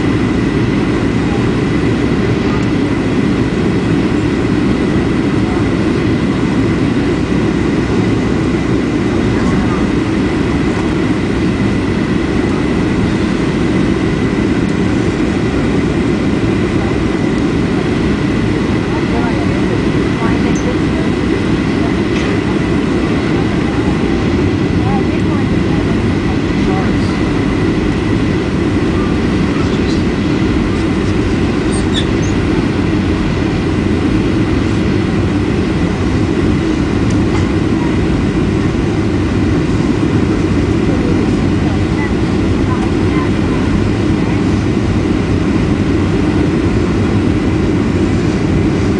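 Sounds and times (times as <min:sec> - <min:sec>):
jet engine and airflow rumble: 0:00.0 - 0:48.9.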